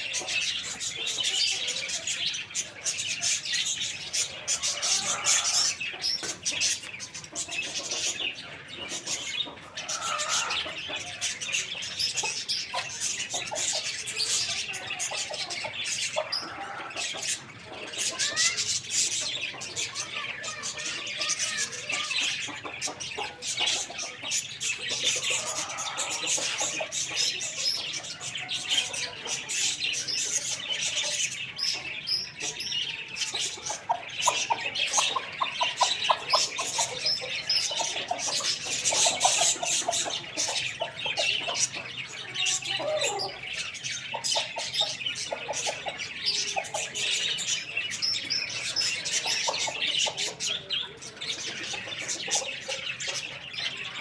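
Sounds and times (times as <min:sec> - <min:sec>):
low squawking calls: 0:00.0 - 0:54.0
small birds chirping: 0:00.0 - 0:54.0.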